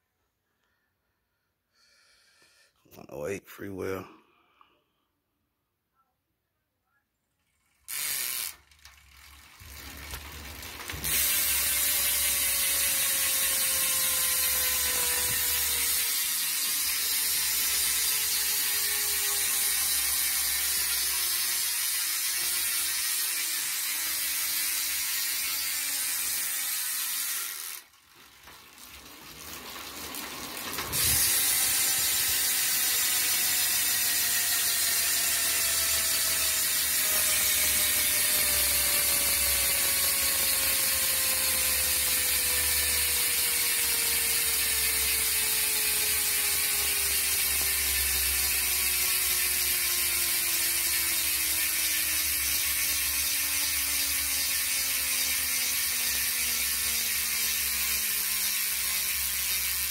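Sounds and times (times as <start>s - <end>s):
bicycle freewheel ratcheting: 7.4s - 59.9s.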